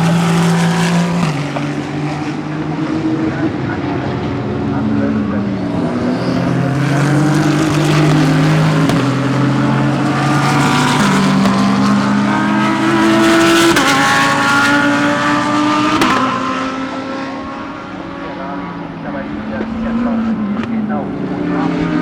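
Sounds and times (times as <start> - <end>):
race cars accelerating past: 0.0 - 22.0.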